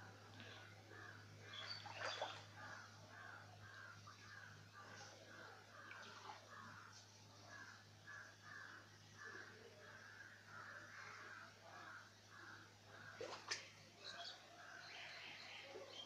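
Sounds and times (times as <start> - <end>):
steady low hum: 0.0 - 15.6
crows cawing faintly: 0.3 - 16.0.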